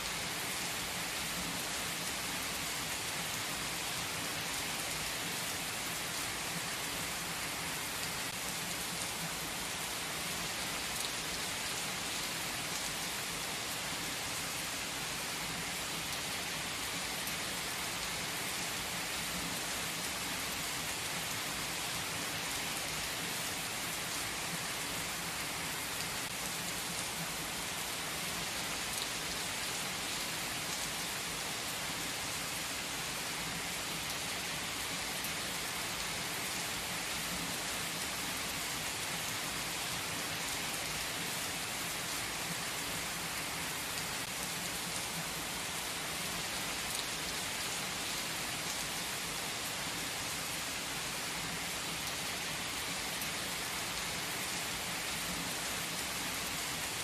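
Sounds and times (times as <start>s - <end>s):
heavy rain on asphalt and cars: 0.0s - 57.0s.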